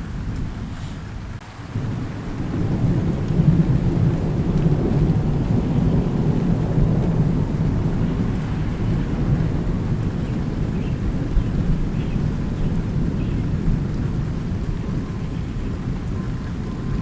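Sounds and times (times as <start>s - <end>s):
low roll of thunder: 0.0s - 17.0s
steady rain: 0.0s - 17.0s.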